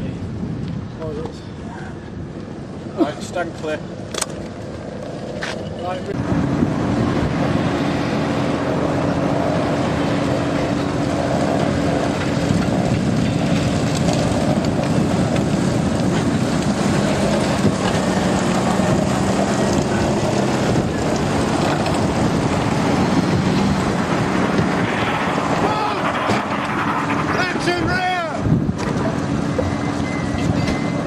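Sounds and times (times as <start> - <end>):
wind buffeting microphone: 0.0 - 31.0
tracked vehicle engine running: 3.2 - 31.0.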